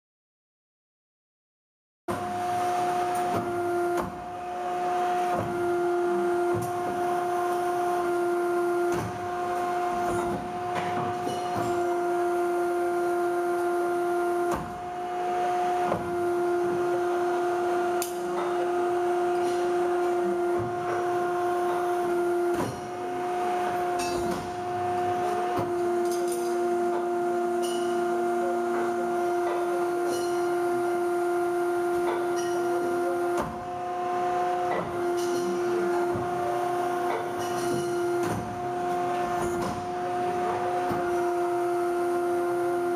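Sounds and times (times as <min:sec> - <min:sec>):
hydraulic power unit hum: 0:02.1 - 0:42.9.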